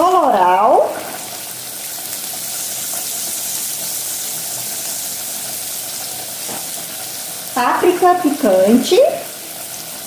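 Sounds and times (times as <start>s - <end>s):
onion and garlic sizzling in oil: 0.0s - 10.0s.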